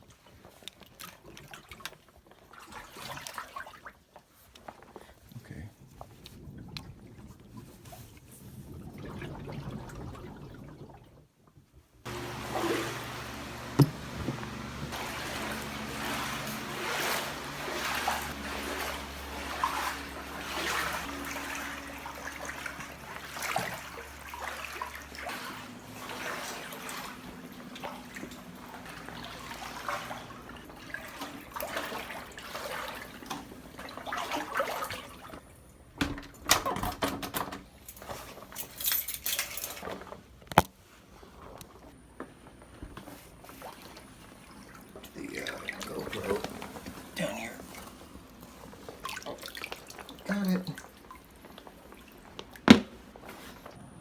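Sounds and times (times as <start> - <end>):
water sloshing and trickling: 0.0 - 42.0, 43.0 - 53.8.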